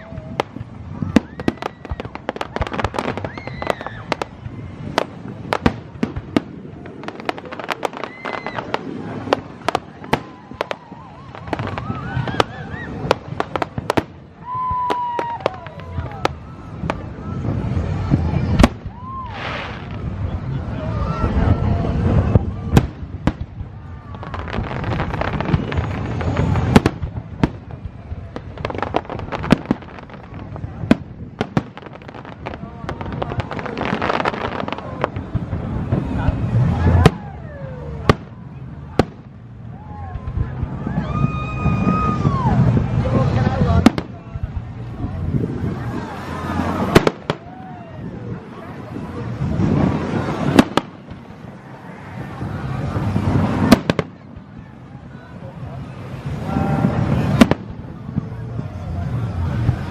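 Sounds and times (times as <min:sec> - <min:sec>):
fireworks cracks and bangs: 0:00.0 - 0:59.9
rising whistling fireworks: 0:00.0 - 0:59.9.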